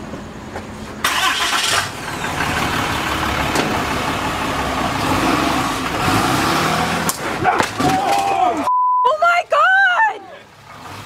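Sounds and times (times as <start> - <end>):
truck engine starting and running: 0.0 - 8.7, 10.2 - 11.0.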